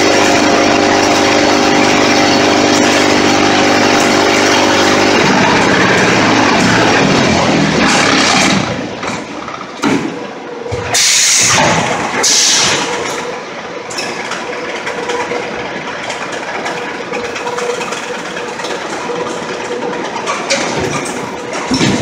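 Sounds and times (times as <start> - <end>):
machine noise: 0.0 - 22.0.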